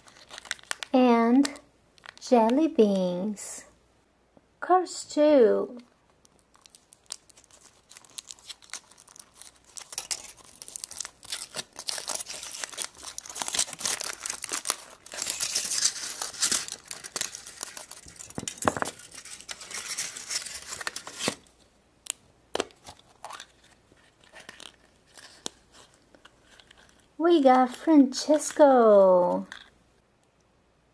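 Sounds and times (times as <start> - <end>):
foil wrapper crinkling: 0.0 - 2.2, 6.1 - 21.5, 22.6 - 29.7.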